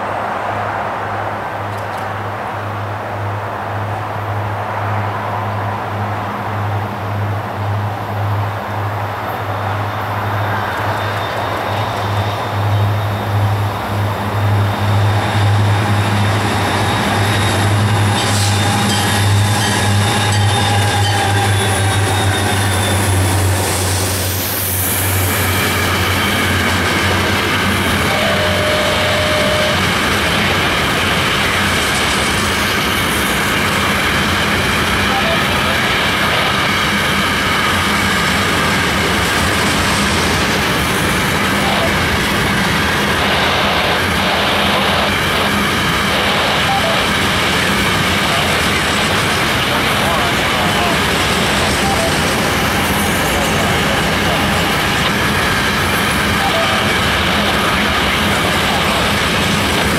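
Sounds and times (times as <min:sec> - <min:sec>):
diesel locomotive engine drone: 0:00.0 - 0:59.9
train wheels on rails: 0:00.0 - 0:59.9.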